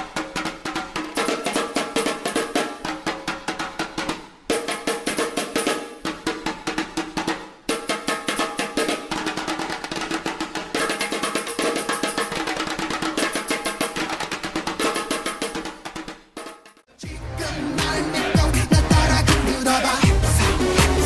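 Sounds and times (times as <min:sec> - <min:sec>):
fast drum-driven dance music: 0:00.0 - 0:21.0.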